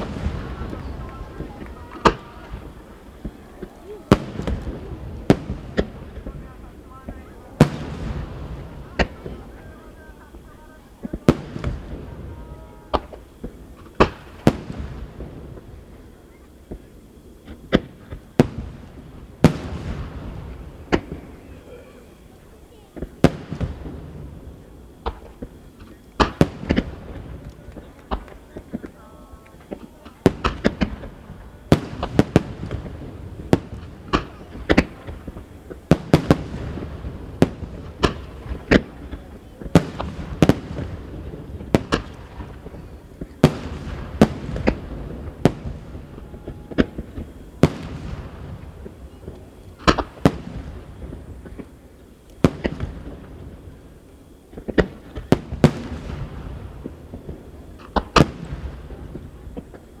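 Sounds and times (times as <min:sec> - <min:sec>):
firework shells booming: 0:00.0 - 1:00.0.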